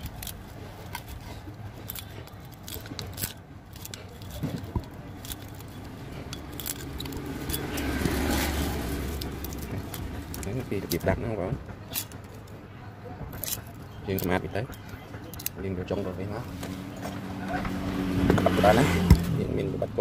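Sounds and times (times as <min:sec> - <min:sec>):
cutters snipping wire: 0:00.0 - 0:12.6, 0:13.2 - 0:19.7.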